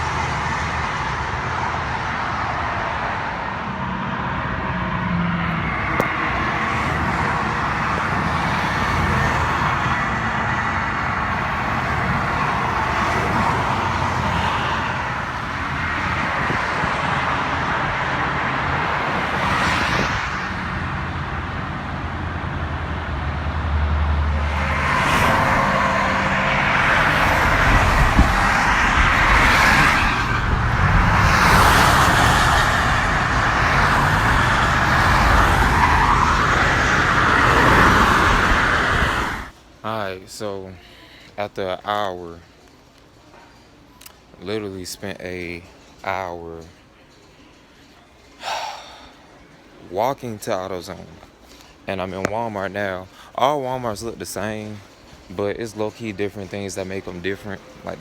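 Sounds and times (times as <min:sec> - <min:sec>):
traffic passing close by: 0:00.0 - 0:58.0.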